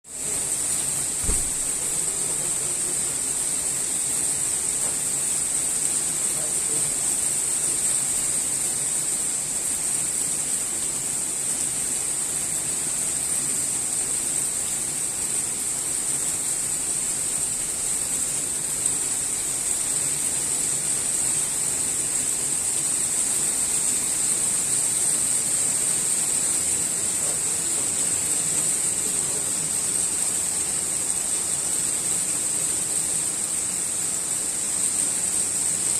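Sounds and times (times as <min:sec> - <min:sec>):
rain falling: 0:00.1 - 0:35.9.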